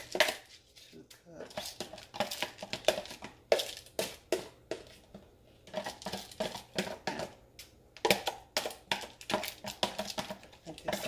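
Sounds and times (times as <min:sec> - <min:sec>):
wooden spoon scraping rice: 0:00.0 - 0:07.3, 0:08.6 - 0:11.0.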